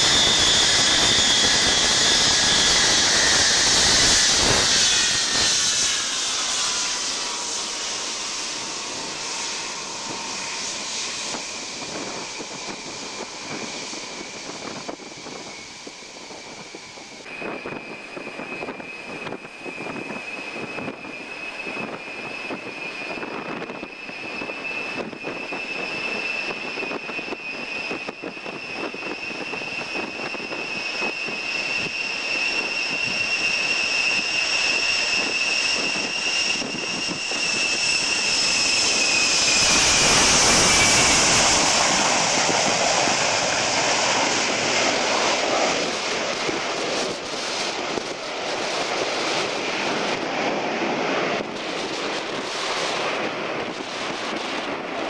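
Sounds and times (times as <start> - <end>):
jet engines whining: 0.0 - 55.0
rush of jet exhaust: 0.0 - 55.0.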